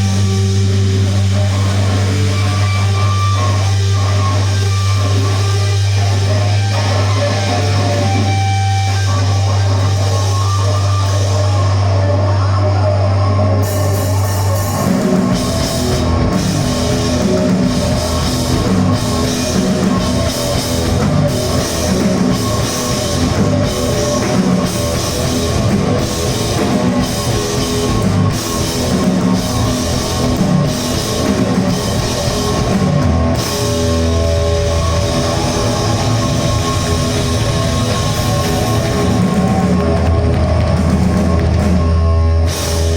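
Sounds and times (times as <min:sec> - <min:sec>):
drums steady beat: 0:00.0 - 0:11.6, 0:13.6 - 0:42.9
heavy rock band playing: 0:00.0 - 0:42.9.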